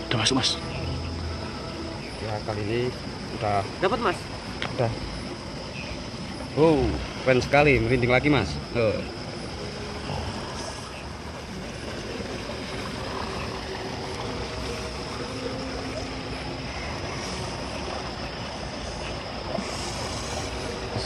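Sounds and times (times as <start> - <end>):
faint high steady tone: 0.0 - 12.2, 12.8 - 21.0.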